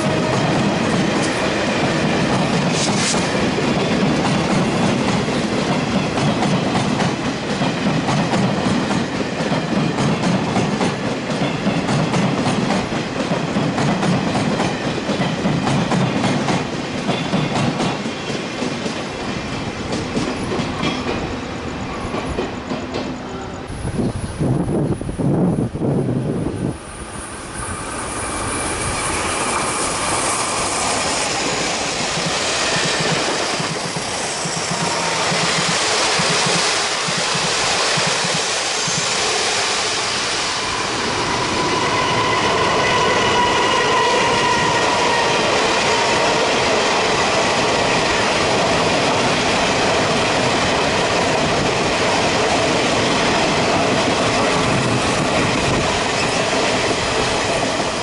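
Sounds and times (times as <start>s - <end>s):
train wheels clattering on rails: 0.0s - 24.9s, 27.5s - 58.0s.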